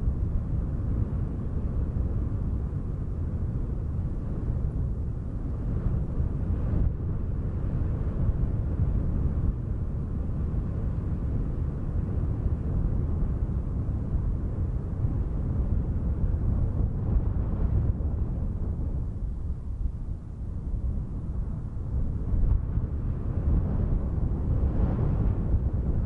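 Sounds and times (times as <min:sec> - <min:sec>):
low wind rumble: 0:00.0 - 0:26.0.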